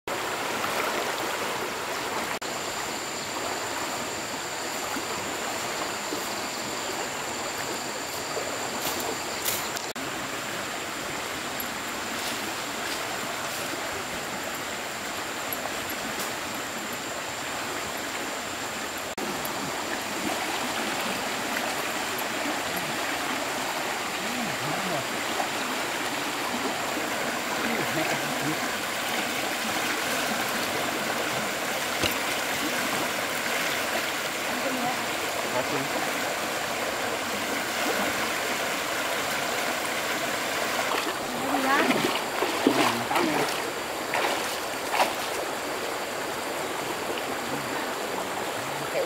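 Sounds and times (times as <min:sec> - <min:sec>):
running water: 0:00.1 - 0:49.0.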